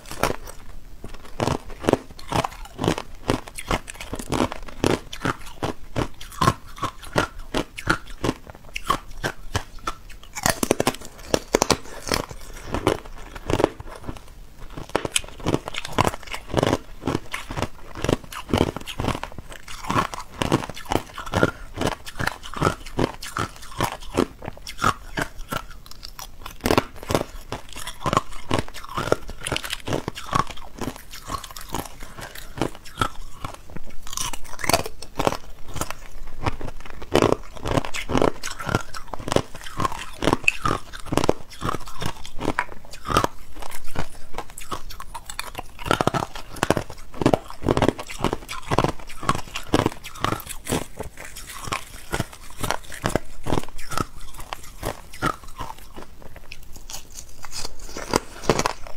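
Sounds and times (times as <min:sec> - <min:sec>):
ice crunching being chewed: 0:00.0 - 0:58.9.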